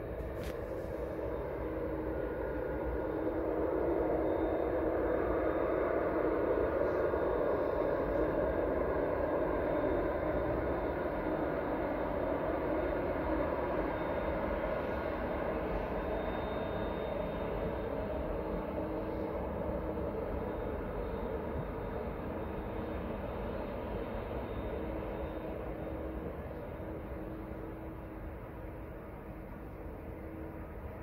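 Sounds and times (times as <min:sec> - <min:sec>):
distant jet engines running: 0:00.0 - 0:31.0.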